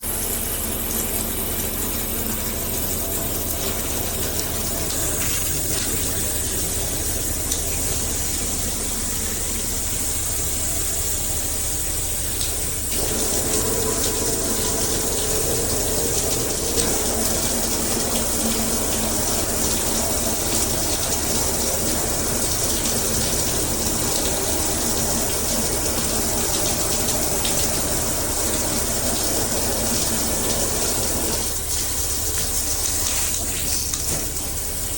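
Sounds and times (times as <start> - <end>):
shower head spraying water: 0.0 - 34.9.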